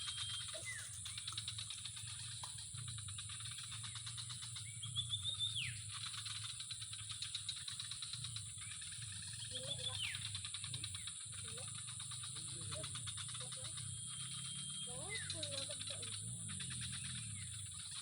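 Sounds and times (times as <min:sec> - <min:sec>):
insect drone with fine ticking: 0:00.0 - 0:18.0
whistled calls: 0:00.0 - 0:18.0.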